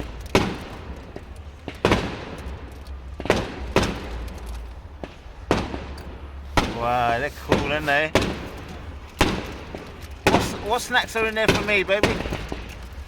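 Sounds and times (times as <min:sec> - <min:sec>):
fireworks bangs with rumbling echo: 0:00.0 - 0:13.0
fireworks crackles: 0:00.0 - 0:13.0.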